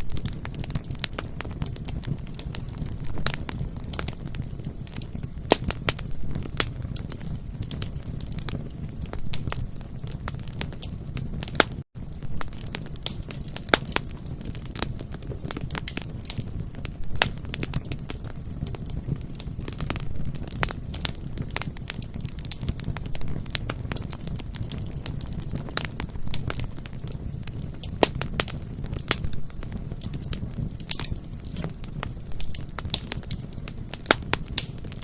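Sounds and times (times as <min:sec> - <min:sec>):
bonfire crackling and popping: 0:00.0 - 0:35.0.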